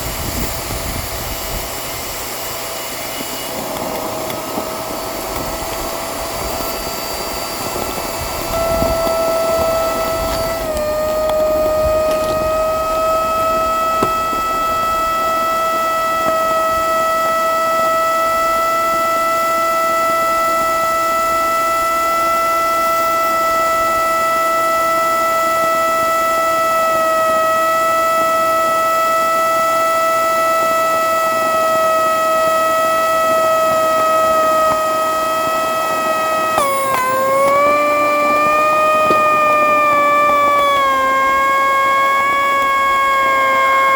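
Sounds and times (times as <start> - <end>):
vacuum cleaner motor whine: 0.0 - 43.9.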